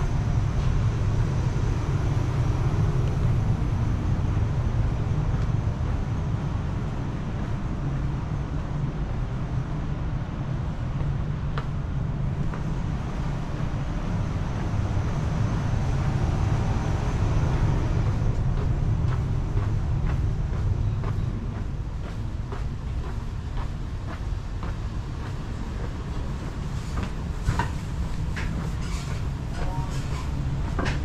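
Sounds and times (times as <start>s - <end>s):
low city rumble: 0.0s - 31.0s.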